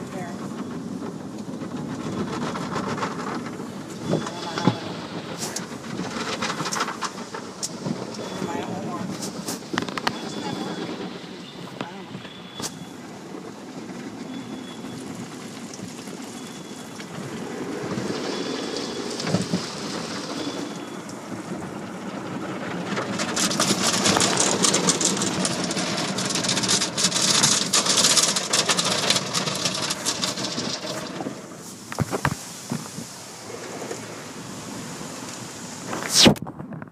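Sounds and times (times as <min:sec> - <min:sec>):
water spraying on car: 0:00.0 - 0:36.4.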